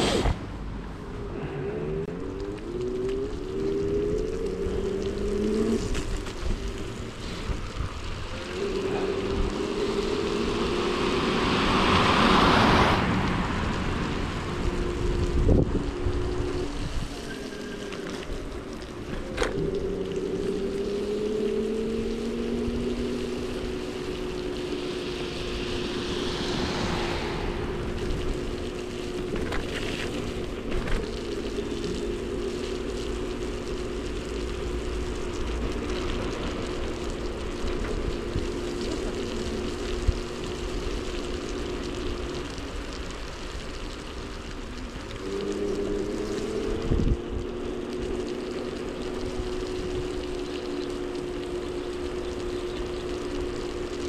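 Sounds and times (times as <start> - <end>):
wheel and wind noise: 0.0 - 54.0
electric scooter motor whining: 1.1 - 54.0.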